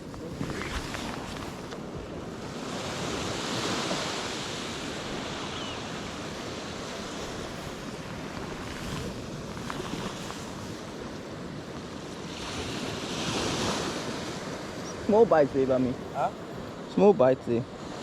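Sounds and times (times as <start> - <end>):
wind buffeting microphone: 0.0 - 16.8
ocean waves breaking on shore: 0.0 - 18.0.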